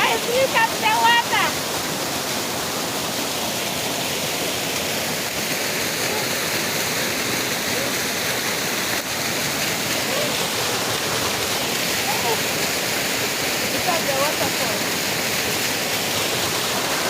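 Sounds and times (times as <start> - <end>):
waterfall splashing onto rocks: 0.0 - 17.0.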